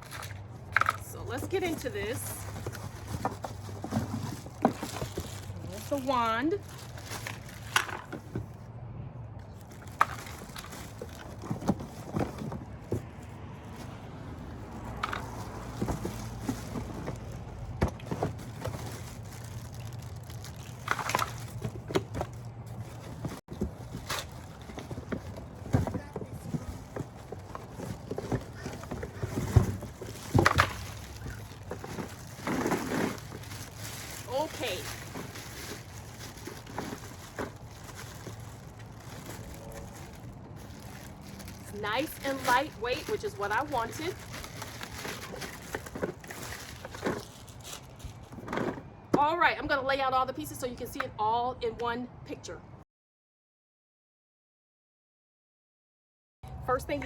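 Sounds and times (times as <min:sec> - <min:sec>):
packaging rustling: 0:00.0 - 0:08.6, 0:09.4 - 0:49.0
handling noises of parts: 0:00.0 - 0:49.3.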